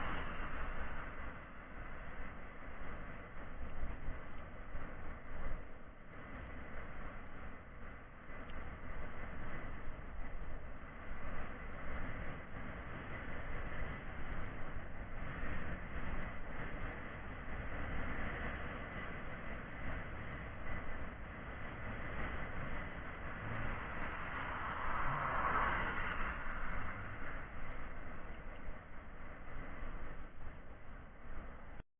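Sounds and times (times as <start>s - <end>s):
rumbling traffic: 0.0s - 31.8s.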